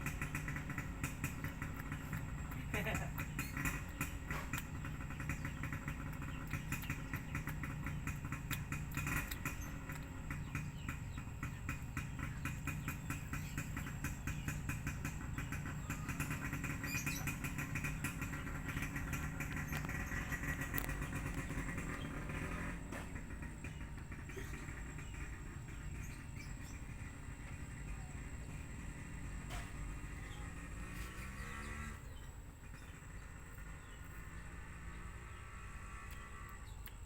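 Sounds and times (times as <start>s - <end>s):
small engine idling: 0.0s - 37.0s.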